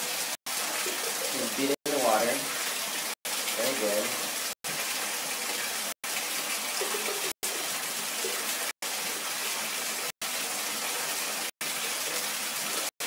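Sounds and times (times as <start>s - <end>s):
water running into bathtub: 0.0s - 13.0s.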